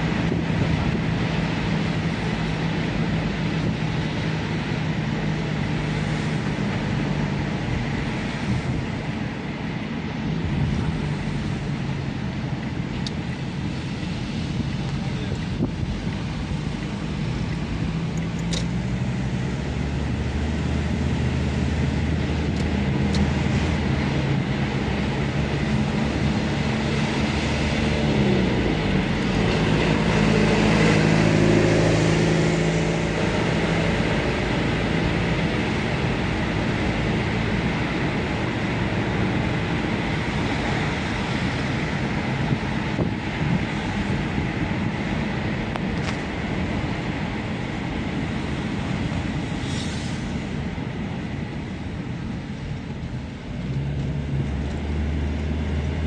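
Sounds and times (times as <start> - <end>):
car engine humming: 0.0 - 56.0
road noise inside moving car: 0.0 - 56.0.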